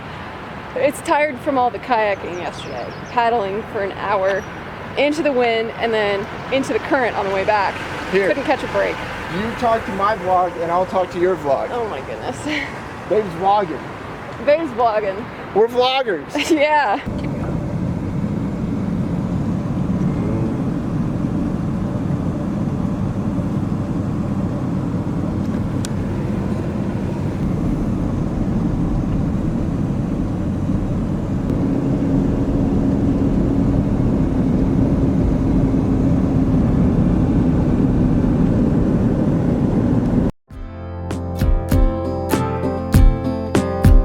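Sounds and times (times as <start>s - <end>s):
vehicle travel rumble: 0.0s - 40.4s.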